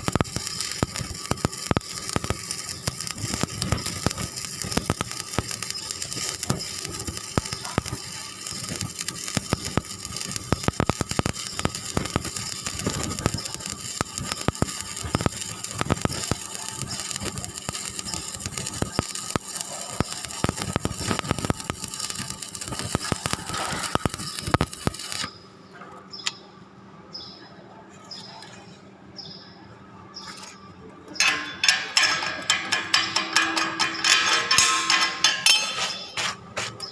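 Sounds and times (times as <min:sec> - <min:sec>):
arc welding crackling: 0:00.0 - 0:25.6, 0:30.2 - 0:36.9.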